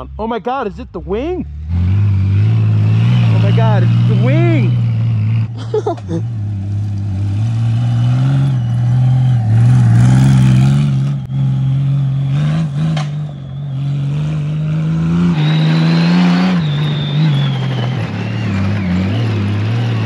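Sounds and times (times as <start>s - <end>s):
motorcycle engine revving: 1.3s - 20.0s.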